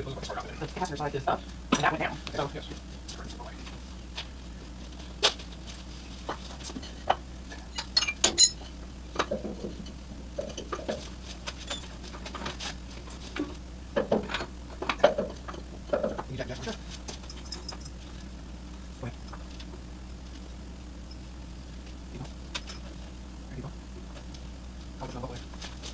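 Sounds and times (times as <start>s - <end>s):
low hum: 0.0s - 25.9s.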